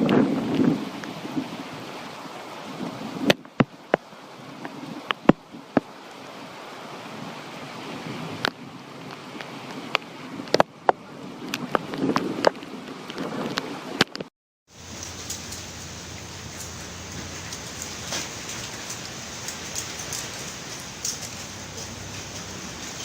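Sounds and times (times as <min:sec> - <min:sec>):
gusting wind: 0:00.0 - 0:14.0, 0:14.7 - 0:23.0
steady rain: 0:00.0 - 0:14.0, 0:14.7 - 0:23.0.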